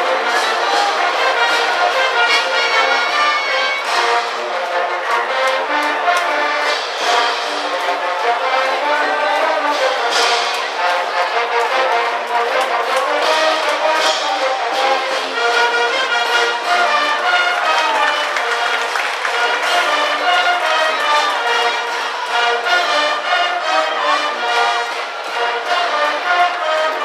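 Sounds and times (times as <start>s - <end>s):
brass band playing cheering tune: 0.0s - 27.0s.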